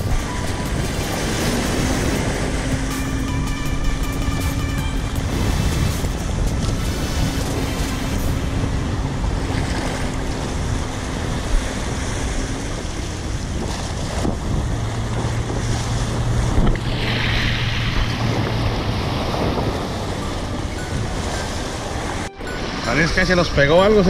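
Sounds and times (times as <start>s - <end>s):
faint boat engine hum: 0.0s - 24.0s
waves washing at shore: 0.0s - 24.0s
wind buffeting microphone: 0.0s - 24.0s.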